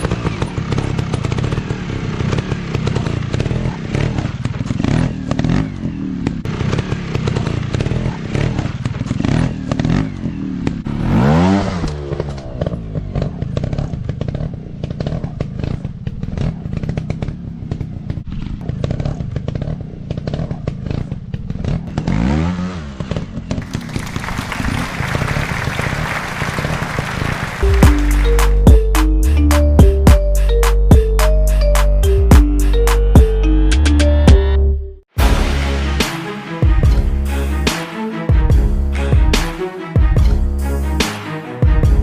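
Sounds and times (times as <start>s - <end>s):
dirt bike engine revving: 0.0s - 34.6s.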